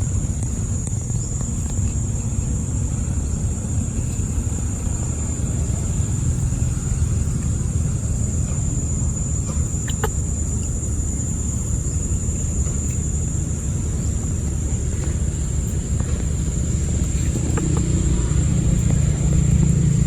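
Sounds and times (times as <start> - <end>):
high-pitched insect drone: 0.1 - 20.0.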